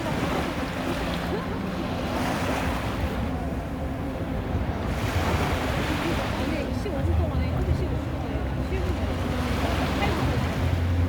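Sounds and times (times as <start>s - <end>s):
sea waves breaking on beach: 0.0s - 3.5s, 4.6s - 11.0s.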